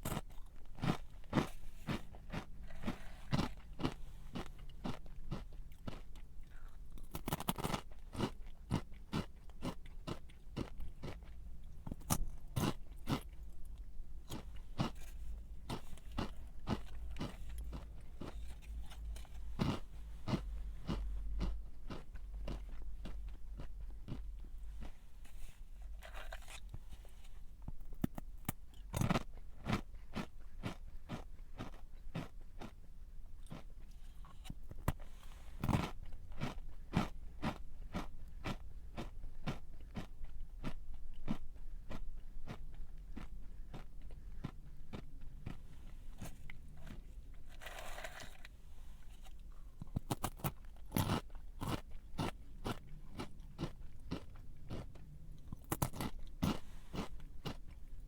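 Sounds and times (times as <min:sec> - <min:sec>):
person chewing crunchy snack: 0:00.0 - 0:58.0.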